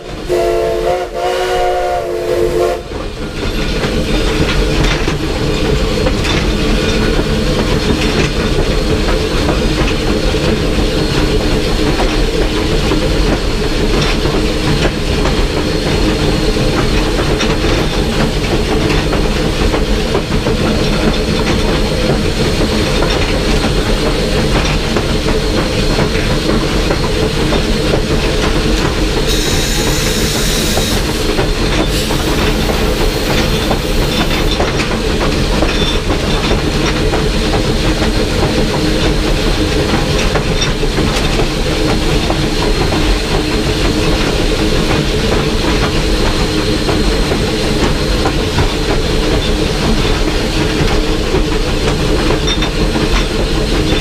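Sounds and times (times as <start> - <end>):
locomotive cab rumble and clatter: 1.6 - 54.0
steam hissing: 8.7 - 54.0.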